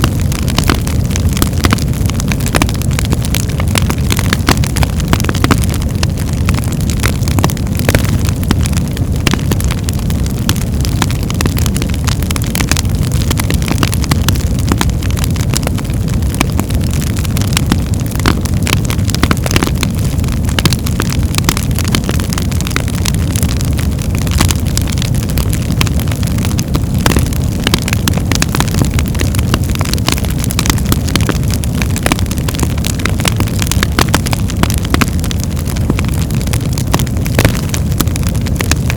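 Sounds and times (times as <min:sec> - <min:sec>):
log fire crackling and popping: 0:00.0 - 0:38.9
low roar of flames: 0:00.0 - 0:38.9.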